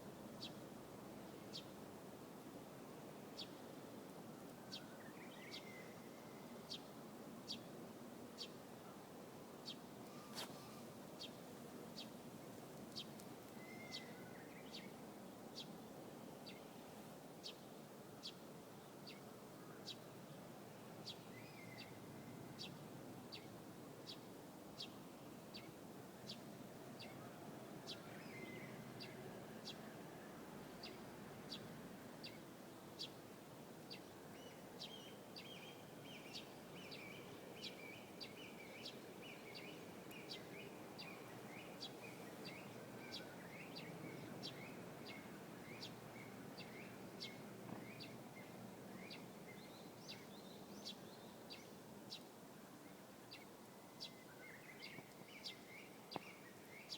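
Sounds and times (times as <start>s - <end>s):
faint background noise: 0.0s - 56.9s.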